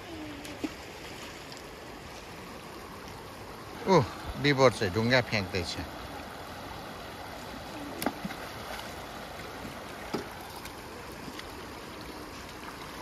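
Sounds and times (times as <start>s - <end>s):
river rushing over gravel: 0.4s - 13.0s.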